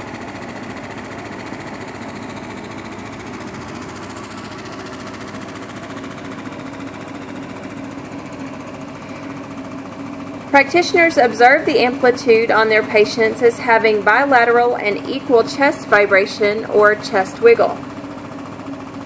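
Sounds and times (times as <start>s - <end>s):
ventilator rapid mechanical pulsing: 0.0s - 19.0s.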